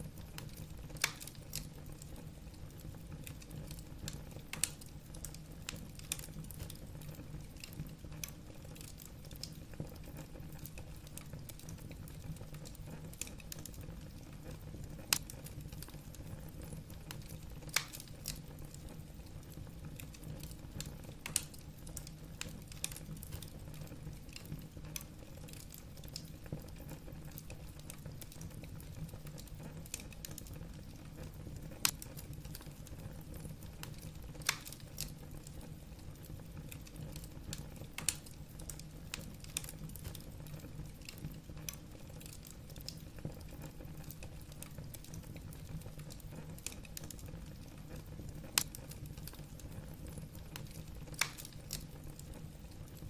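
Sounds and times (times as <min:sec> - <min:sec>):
logs crackling in fireplace: 0:00.0 - 0:53.0.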